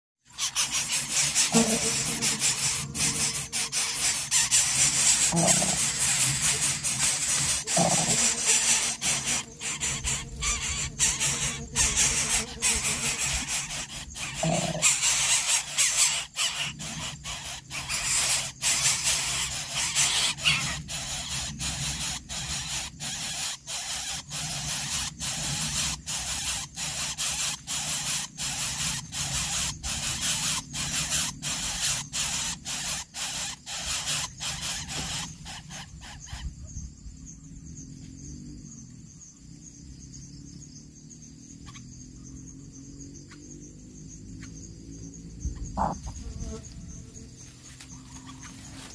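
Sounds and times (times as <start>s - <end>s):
nestling birds squealing: 0.2s - 37.6s, 41.2s - 47.0s, 47.6s - 48.9s.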